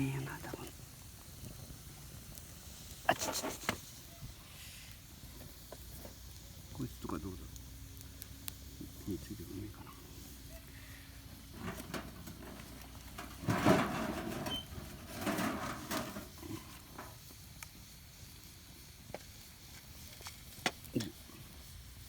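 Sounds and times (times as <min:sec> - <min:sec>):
campfire crackling and popping: 0:00.0 - 0:22.0
firewood rustling and scraping: 0:00.0 - 0:22.0.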